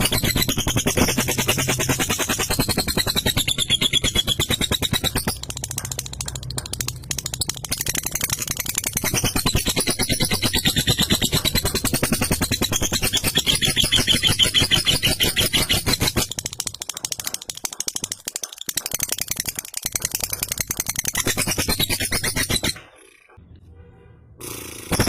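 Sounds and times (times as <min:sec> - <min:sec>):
lovebird chattering trill: 0:00.0 - 0:23.3.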